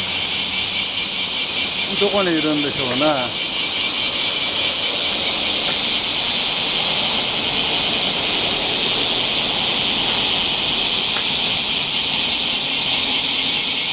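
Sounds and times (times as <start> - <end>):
cicadas buzzing: 0.0 - 13.9.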